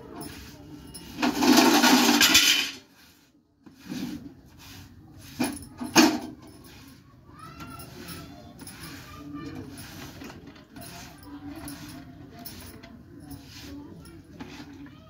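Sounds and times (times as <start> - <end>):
utensils clinking and clanking: 0.0 - 2.9, 5.3 - 15.0
steel utensils scraping: 0.0 - 3.2, 3.8 - 14.8.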